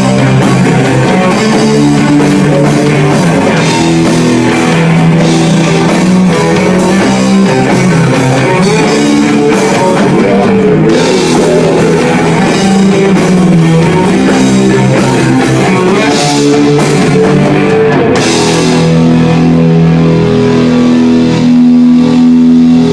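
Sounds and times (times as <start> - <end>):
distorted electric guitars: 0.0 - 22.9
drum kit: 0.0 - 22.9.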